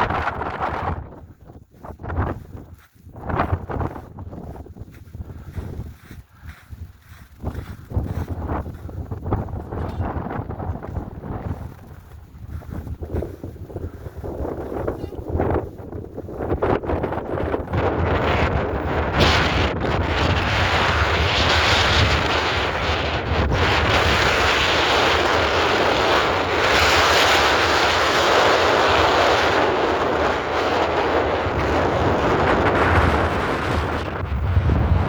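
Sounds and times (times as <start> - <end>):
strong wind buffeting microphone: 0.0 - 35.0.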